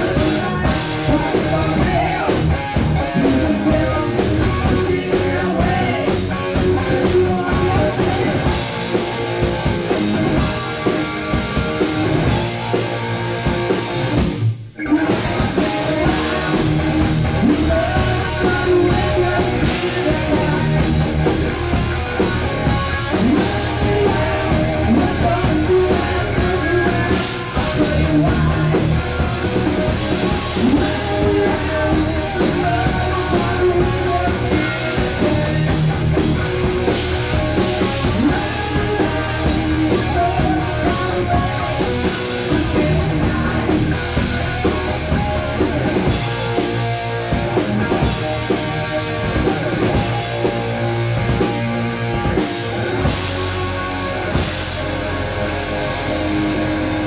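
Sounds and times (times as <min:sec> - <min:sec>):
bass: 0:00.0 - 0:57.0
drum kit: 0:00.0 - 0:57.0
electric guitars: 0:00.0 - 0:57.0.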